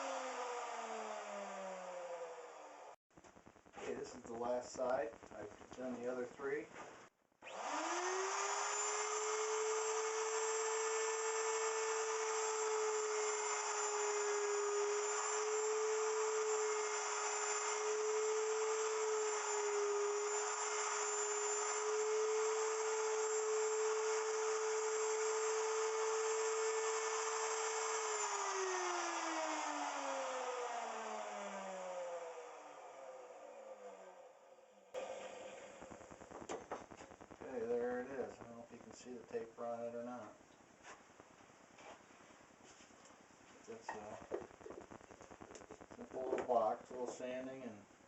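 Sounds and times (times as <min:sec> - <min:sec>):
wood router spinning: 0:00.0 - 0:03.0, 0:07.4 - 0:34.4, 0:35.0 - 0:40.0, 0:43.7 - 0:47.5.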